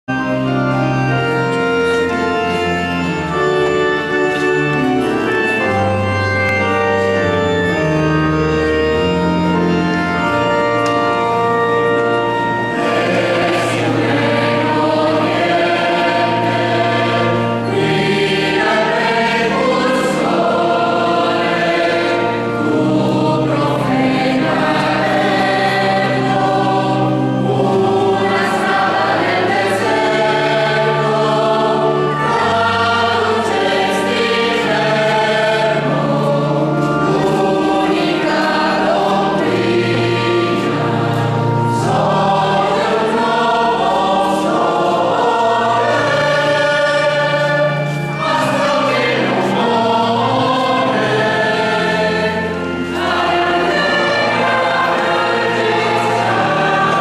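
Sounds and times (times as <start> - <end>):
choir singing a hymn: 0.1 - 57.0
organ playing sustained chords: 0.1 - 57.0.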